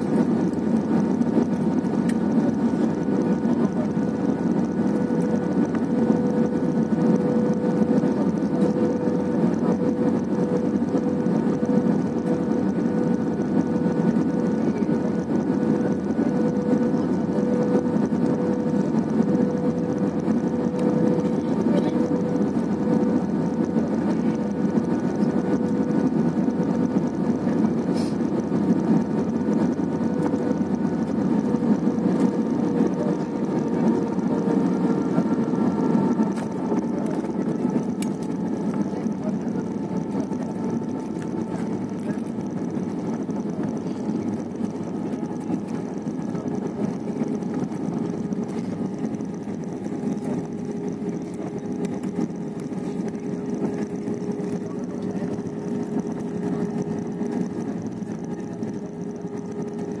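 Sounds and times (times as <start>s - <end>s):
faint steady tones: 0.0s - 60.0s
jet engines and rushing air: 0.0s - 60.0s.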